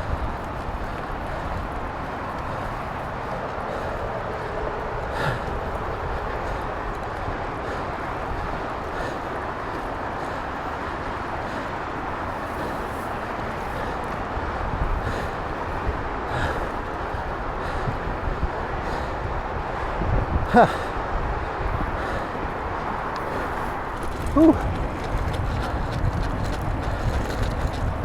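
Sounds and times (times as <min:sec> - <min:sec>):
bike tyres and wind rushing: 0:00.0 - 0:28.0
freeway traffic roar: 0:00.0 - 0:28.0.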